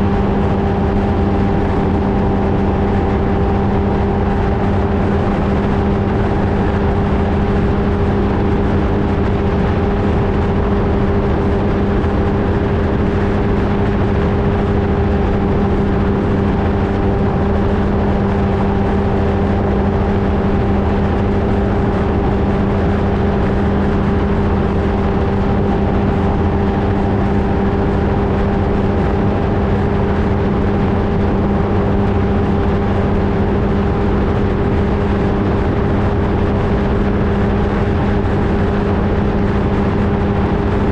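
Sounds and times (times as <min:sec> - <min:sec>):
constant rush of noise: 0:00.0 - 0:40.9
ultralight engine and propeller droning: 0:00.0 - 0:40.9.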